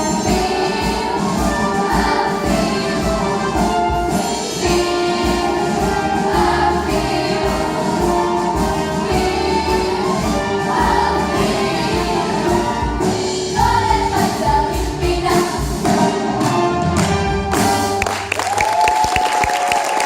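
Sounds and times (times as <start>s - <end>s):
choir singing: 0.0s - 16.9s
instrumental accompaniment: 0.0s - 18.5s.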